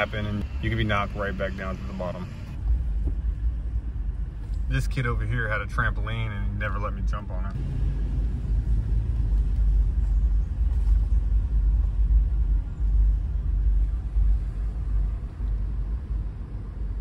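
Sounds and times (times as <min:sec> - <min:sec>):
engine and road noise in car: 0:00.0 - 0:17.0.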